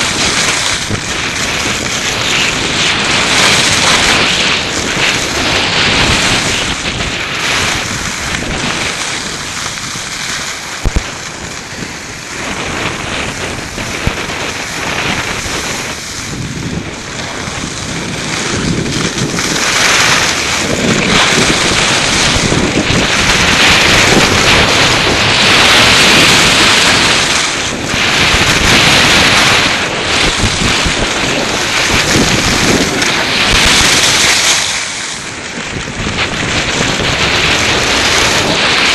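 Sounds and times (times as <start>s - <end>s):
snowboard scraping over snow: 0.0s - 38.9s
wind buffeting microphone: 0.0s - 38.9s.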